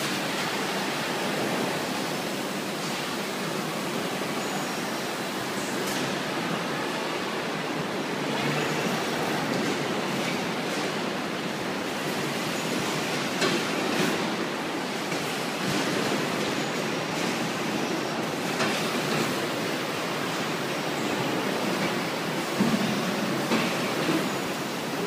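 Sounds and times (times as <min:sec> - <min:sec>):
palletizing line machinery running: 0:00.0 - 0:25.0.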